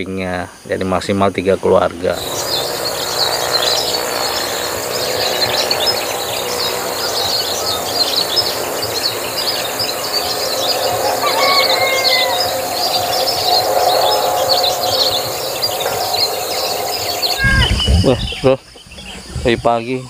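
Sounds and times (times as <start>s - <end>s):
birds chirping: 0.0s - 20.0s
insects: 0.0s - 20.0s
bird gliding whistled calls: 2.2s - 20.0s.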